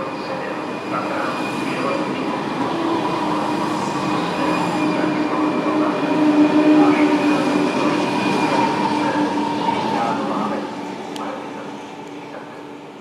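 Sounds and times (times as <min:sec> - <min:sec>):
electric train passing: 0:00.0 - 0:13.0
steady train whine: 0:00.0 - 0:13.0.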